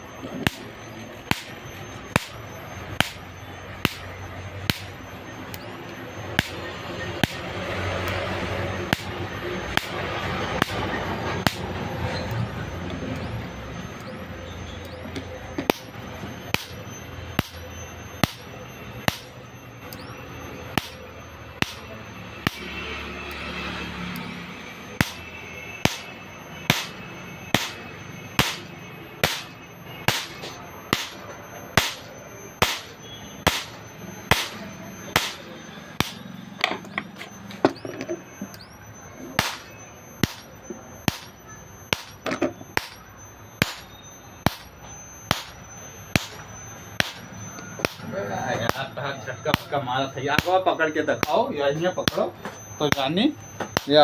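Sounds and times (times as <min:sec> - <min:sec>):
electric fence snapping: 0:00.2 - 0:14.1, 0:14.8 - 0:36.2, 0:39.3 - 0:48.9, 0:50.4 - 0:51.4, 0:52.1 - 0:54.0.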